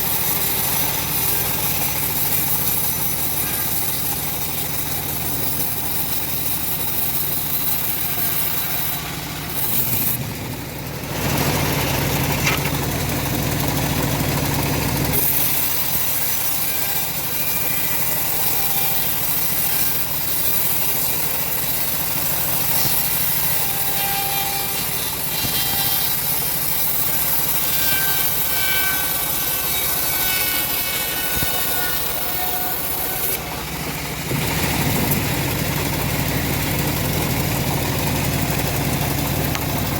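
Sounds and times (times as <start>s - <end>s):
bandsaw cutting log: 0.0s - 39.9s
engine running: 0.0s - 39.9s.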